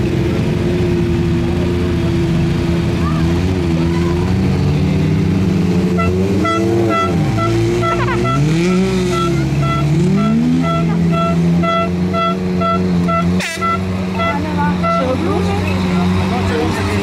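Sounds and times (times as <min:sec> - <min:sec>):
buggy engine revving: 0:00.0 - 0:17.0.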